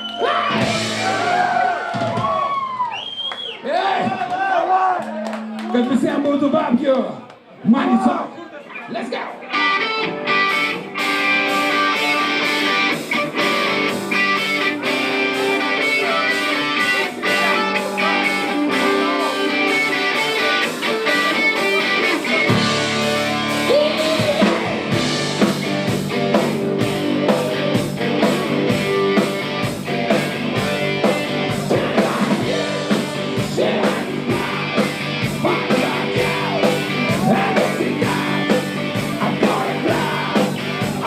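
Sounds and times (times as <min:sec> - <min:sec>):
guitar-led rock music: 0:00.2 - 0:01.6, 0:08.8 - 0:41.0.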